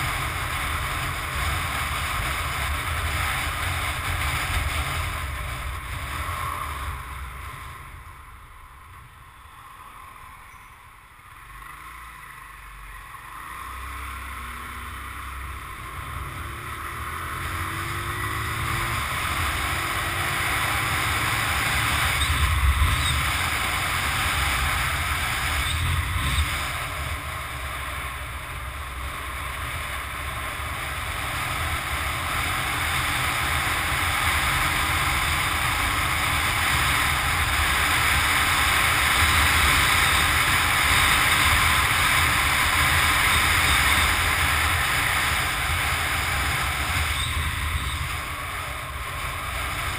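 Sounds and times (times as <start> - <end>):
road noise: 0.0 - 49.9.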